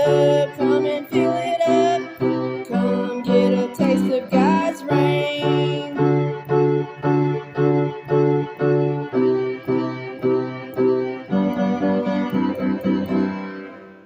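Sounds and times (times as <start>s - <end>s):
keyboard playing sustained chords: 0.0s - 14.0s.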